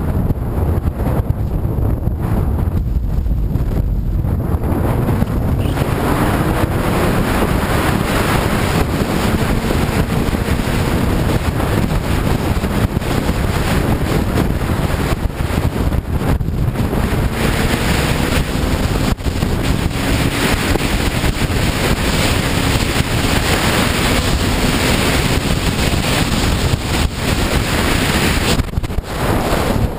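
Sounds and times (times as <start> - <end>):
motorcycle engine: 0.0 - 29.9
wind noise on microphone: 0.0 - 29.9.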